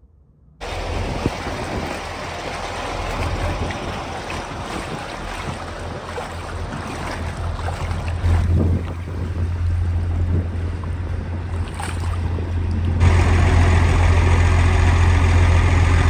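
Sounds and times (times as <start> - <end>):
rushing floodwater: 0.6 - 16.0
wind rumbling on microphone: 0.6 - 16.0.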